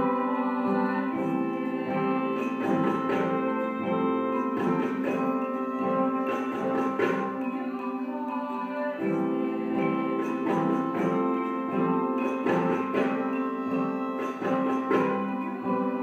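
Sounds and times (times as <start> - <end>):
live instrumental ensemble music: 0.0 - 16.0.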